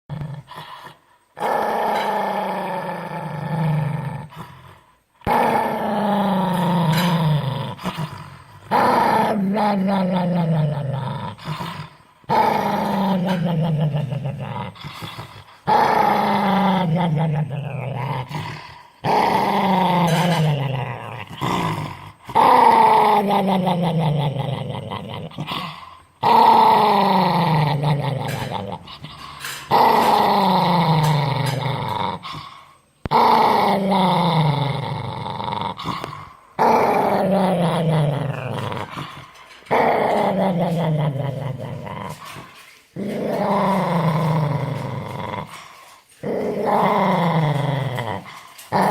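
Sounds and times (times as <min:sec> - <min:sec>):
dog growling: 0:00.0 - 0:48.9.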